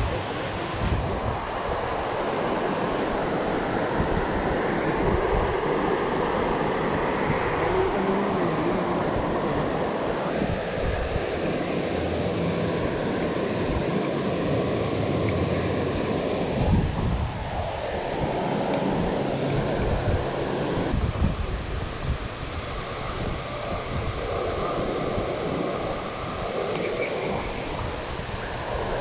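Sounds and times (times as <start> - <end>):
creek water flowing over rocks: 0.0 - 29.0.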